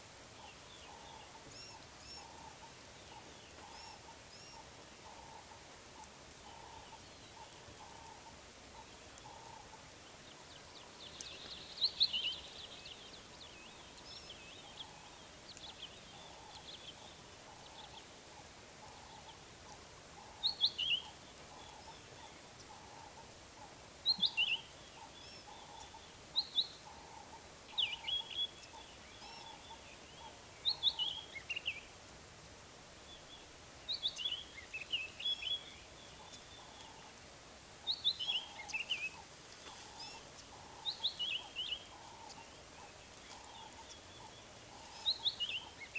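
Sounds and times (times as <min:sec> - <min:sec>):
birds chirping: 0:00.2 - 0:32.0, 0:32.6 - 0:45.9.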